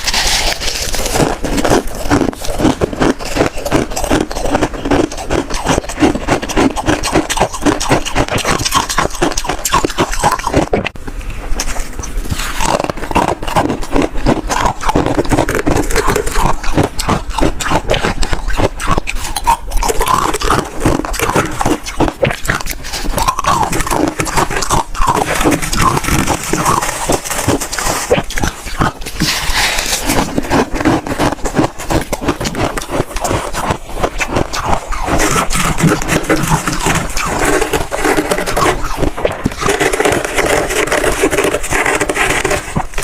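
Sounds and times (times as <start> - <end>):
frost being bitten and chewed: 0.0 - 11.0, 11.6 - 43.0.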